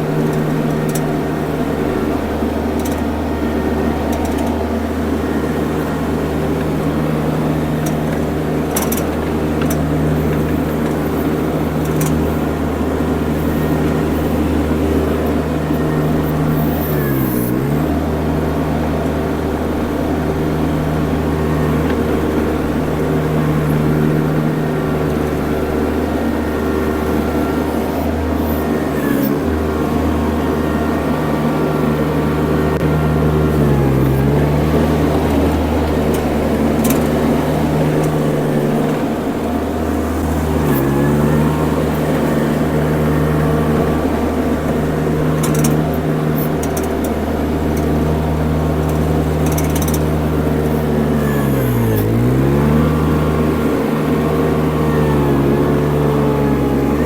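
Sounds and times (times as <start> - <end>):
skid steer engine under load: 0.0 - 57.0.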